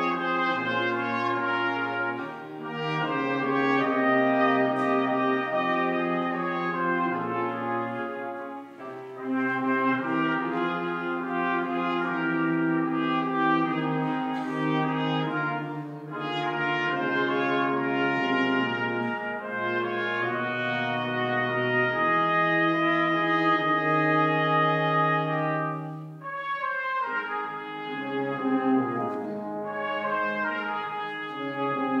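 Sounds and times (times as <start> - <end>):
brass quartet playing chords: 0.0 - 32.0.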